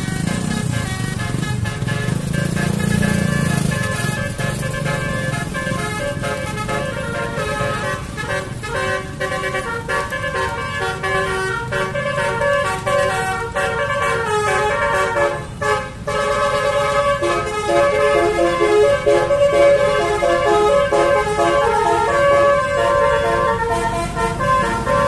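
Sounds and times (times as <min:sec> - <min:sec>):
multi-tone bus horn tune: 0:00.0 - 0:25.0.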